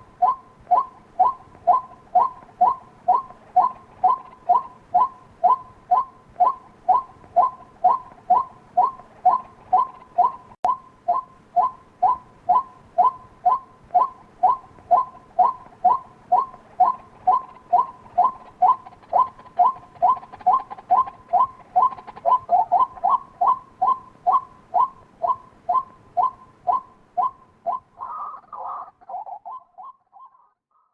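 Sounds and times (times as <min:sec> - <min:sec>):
waterhen two-pitched calls: 0:00.0 - 0:30.9.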